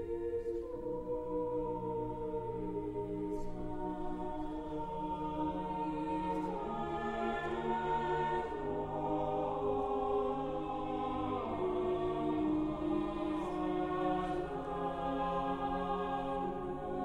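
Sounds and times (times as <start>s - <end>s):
choir-like chords music: 0.0s - 17.0s.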